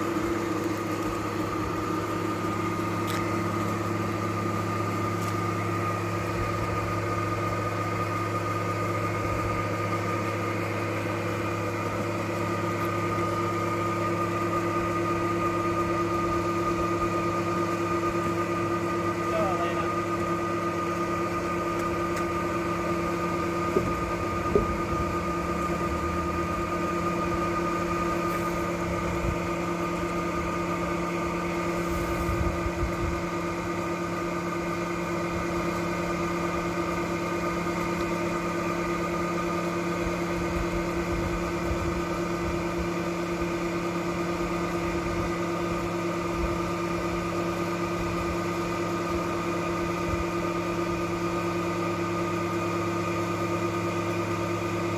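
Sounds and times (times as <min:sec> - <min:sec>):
boat lift motor humming: 0:00.0 - 0:54.9.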